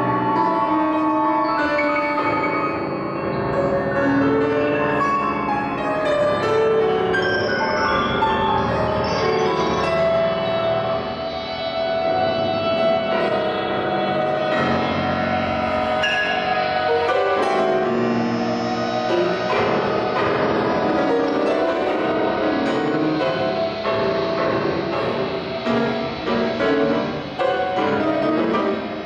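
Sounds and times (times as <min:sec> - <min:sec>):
grand piano playing chords: 0:00.0 - 0:29.0.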